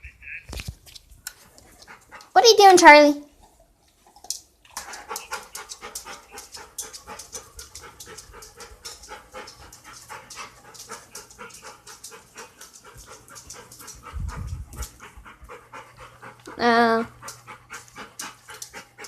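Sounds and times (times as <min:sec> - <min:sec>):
dog panting fast: 0:01.4 - 0:03.1, 0:04.7 - 0:19.0.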